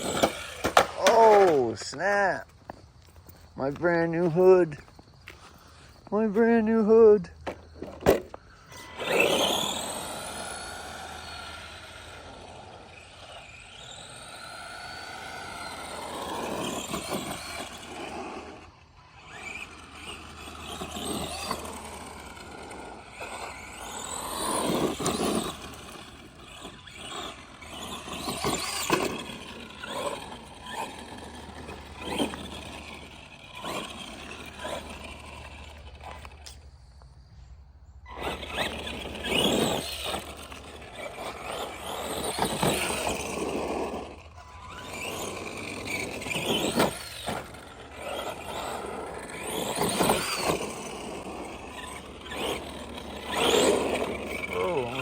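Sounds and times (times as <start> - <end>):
rc truck motor and gear whine: 0.0 - 55.0.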